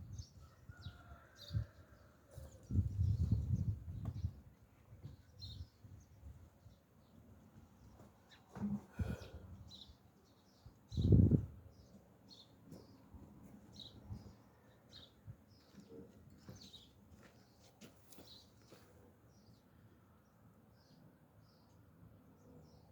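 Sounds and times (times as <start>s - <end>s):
small birds chirping: 0.1s - 22.9s.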